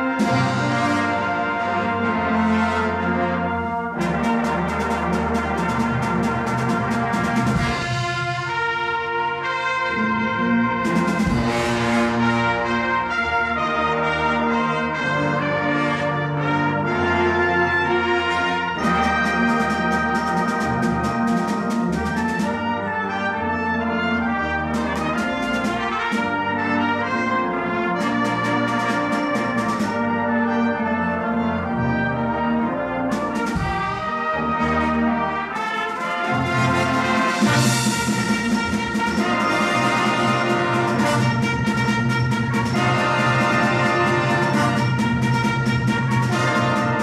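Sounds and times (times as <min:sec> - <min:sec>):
brass band playing: 0:00.0 - 0:47.0.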